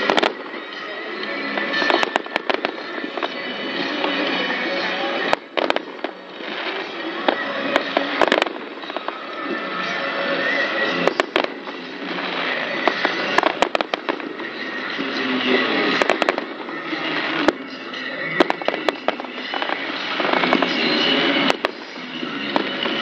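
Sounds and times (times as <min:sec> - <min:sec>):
fireworks crackle and fizz: 0:00.0 - 0:23.0
fireworks shells bursting bangs: 0:00.0 - 0:23.0.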